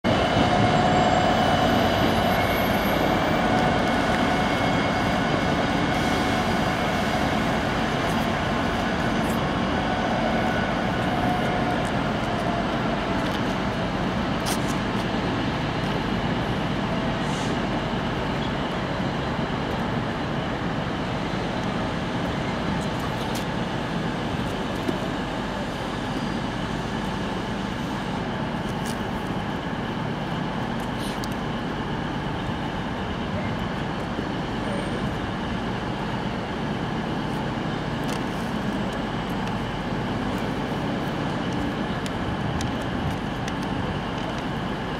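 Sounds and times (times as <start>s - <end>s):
diesel locomotive engine running: 0.0s - 44.9s
sharp clicks of wheels on tracks: 0.1s - 44.9s.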